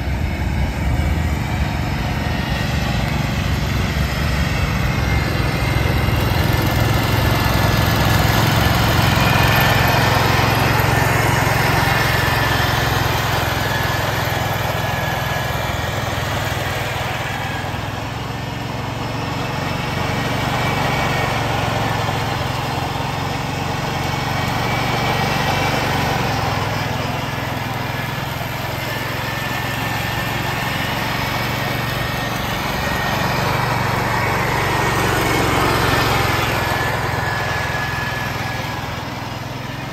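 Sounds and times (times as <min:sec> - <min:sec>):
mower deck mulching leaves: 0:00.0 - 0:39.9
tractor engine running: 0:00.0 - 0:39.9.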